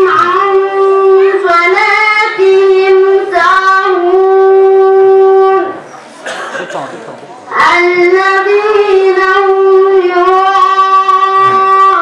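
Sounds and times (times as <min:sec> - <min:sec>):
young voice chanting melodically: 0:00.0 - 0:05.8, 0:07.5 - 0:12.0.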